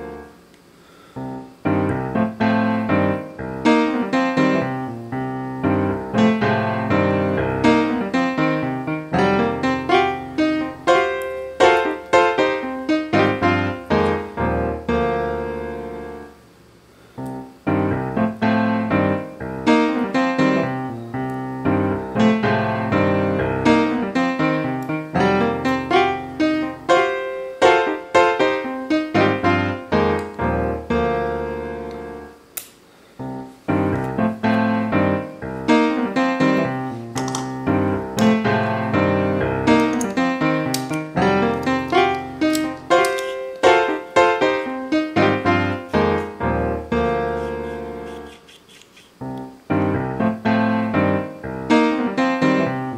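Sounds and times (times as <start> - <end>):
piano music: 0.0 - 0.5, 1.2 - 16.4, 17.2 - 32.5, 33.2 - 48.5, 49.1 - 52.9.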